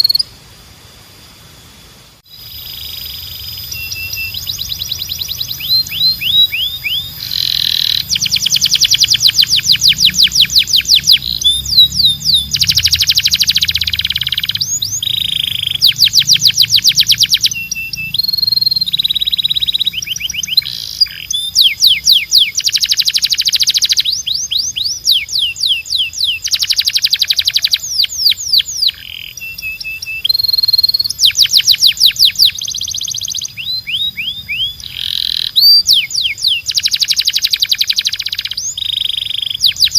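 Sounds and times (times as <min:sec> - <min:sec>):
canary singing: 0:00.0 - 0:00.4, 0:02.3 - 0:39.9.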